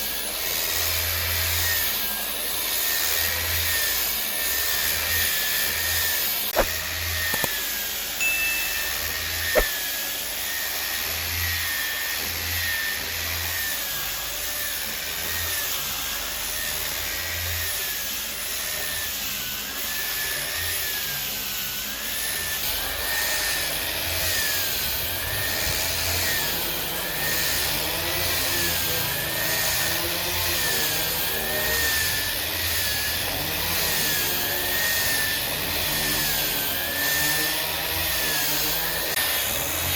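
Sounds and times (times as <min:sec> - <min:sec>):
woodworking machine whining: 0:00.0 - 0:39.9.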